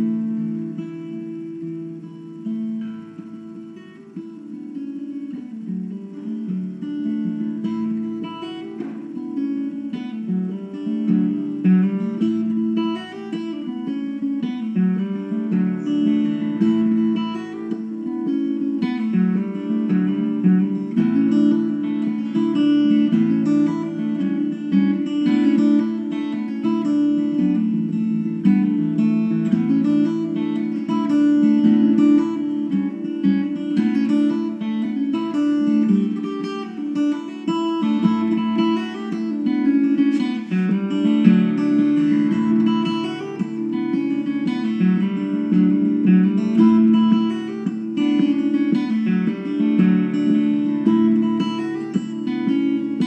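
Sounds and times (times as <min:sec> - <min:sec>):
acoustic guitar fingerpicking: 0:00.0 - 0:53.0.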